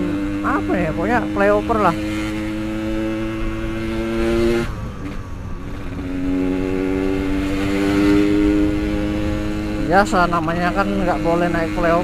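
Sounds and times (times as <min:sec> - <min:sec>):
motorcycle engine revving: 0:00.0 - 0:12.0
road and wind noise: 0:00.0 - 0:12.0.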